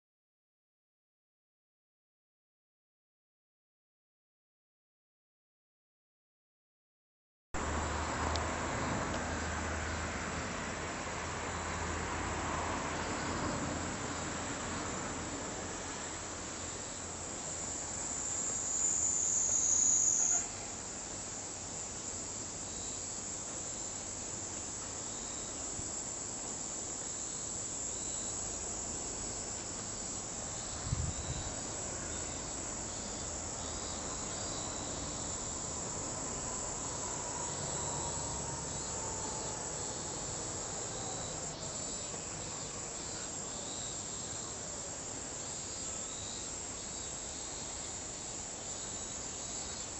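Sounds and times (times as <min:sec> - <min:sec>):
cicadas buzzing: 0:07.6 - 0:49.9.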